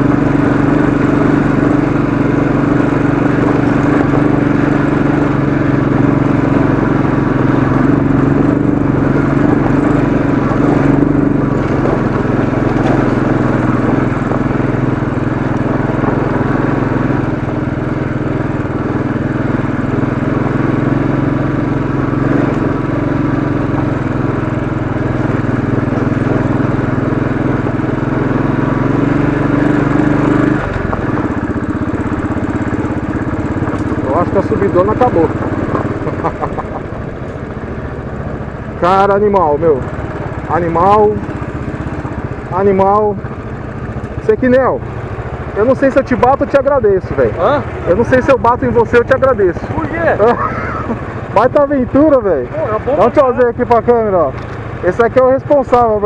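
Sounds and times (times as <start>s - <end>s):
motorcycle engine running under load: 0.0s - 56.0s.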